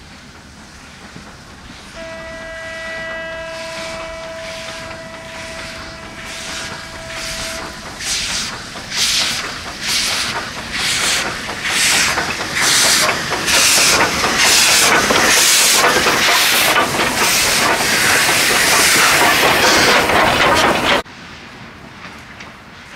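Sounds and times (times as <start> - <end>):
steam locomotive hissing steam bursts: 0.0 - 21.7.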